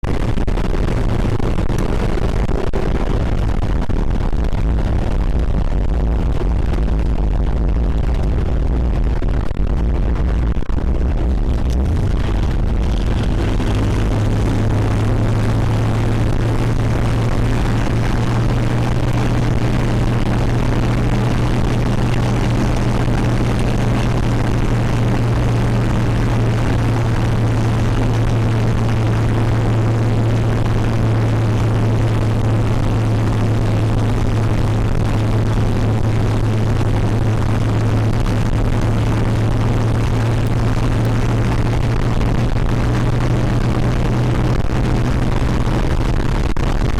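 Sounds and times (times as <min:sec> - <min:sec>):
road noise: 0:00.0 - 0:46.9
vehicle engine drone: 0:00.0 - 0:46.9.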